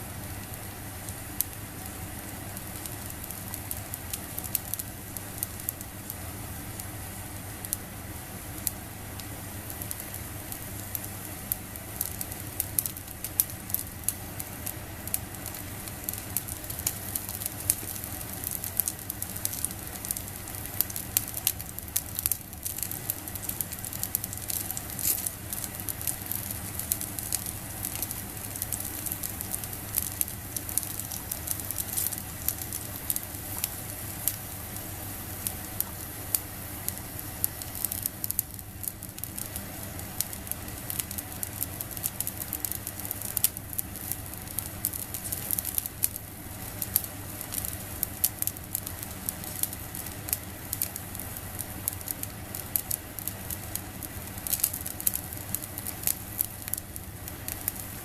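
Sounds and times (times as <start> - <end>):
squid sizzling on a grill: 0.0 - 58.0
fire popping and crackling: 0.2 - 7.9, 8.5 - 58.0.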